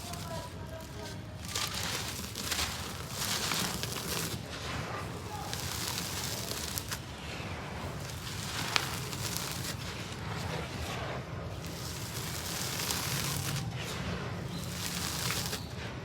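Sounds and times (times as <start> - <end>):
dry cement crackling rustle: 0.0 - 16.0.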